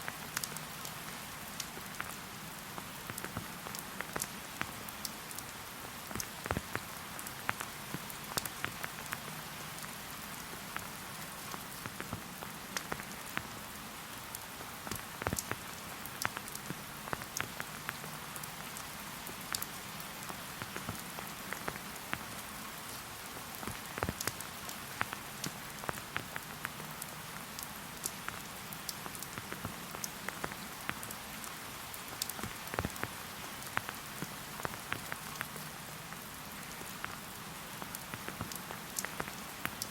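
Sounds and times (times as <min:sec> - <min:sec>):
raindrops ticking close by: 0:00.0 - 0:39.9
steady rainfall: 0:00.0 - 0:39.9.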